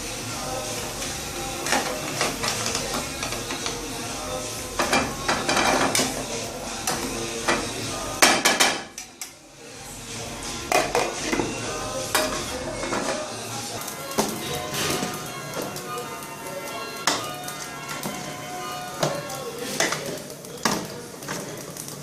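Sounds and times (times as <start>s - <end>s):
metal utensils clattering on pots: 1.6s - 3.9s, 4.7s - 9.3s, 10.6s - 22.0s.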